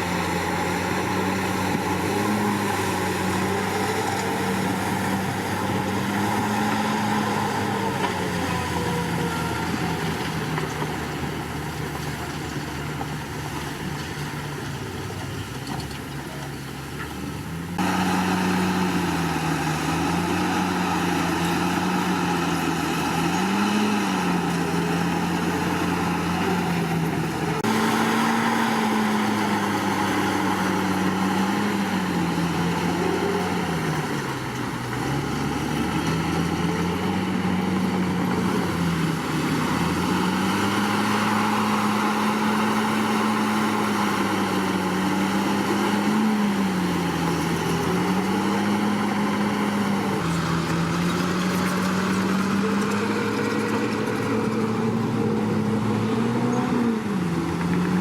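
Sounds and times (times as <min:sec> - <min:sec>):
bulldozer diesel engine running hard: 0:00.0 - 0:58.0.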